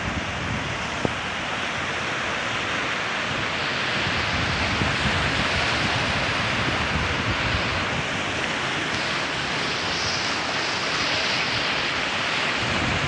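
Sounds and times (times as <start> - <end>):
waves breaking on rocks: 0.0 - 13.0
wind rumble on microphone: 0.0 - 13.0.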